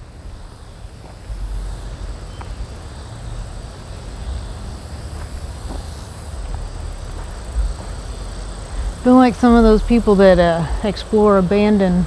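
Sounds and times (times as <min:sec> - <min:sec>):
faint footsteps on grass: 0:00.0 - 0:11.5
wind rumbling on microphone: 0:00.0 - 0:12.0.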